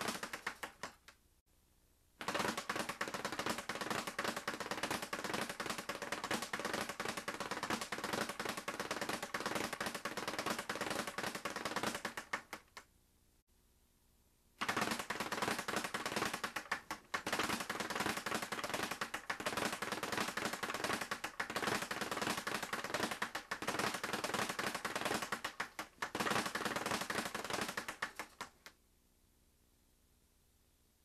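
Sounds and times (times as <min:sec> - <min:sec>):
speed bag rattling: 0:00.0 - 0:00.9, 0:02.2 - 0:12.7, 0:14.6 - 0:28.6.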